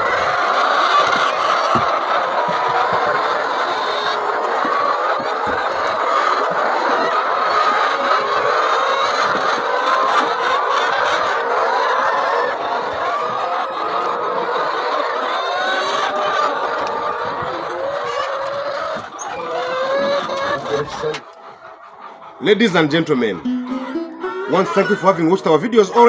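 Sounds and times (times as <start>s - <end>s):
hens clucking and squawking: 0.0s - 26.0s.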